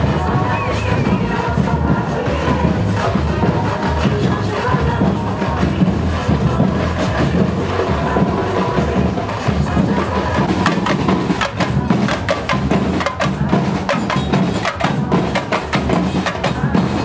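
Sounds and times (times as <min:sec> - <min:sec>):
deep steady drum: 0:00.0 - 0:17.0
fast drum rhythm: 0:00.0 - 0:17.0.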